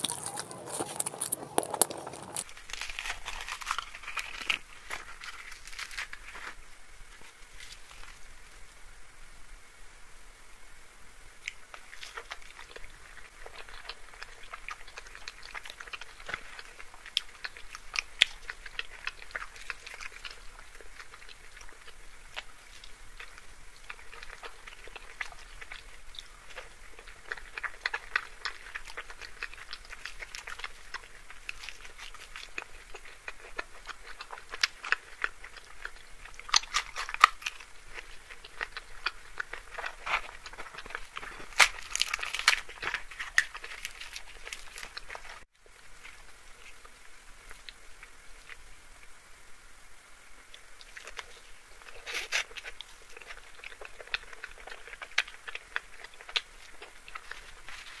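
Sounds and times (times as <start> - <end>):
close chewing and crunching: 0.0 - 8.4, 11.4 - 49.2, 50.3 - 58.0.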